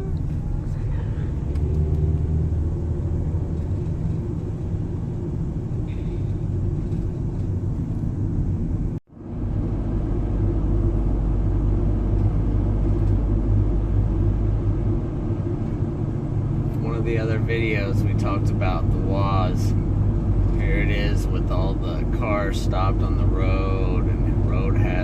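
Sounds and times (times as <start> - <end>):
van engine rumble and road noise: 0.0 - 25.0.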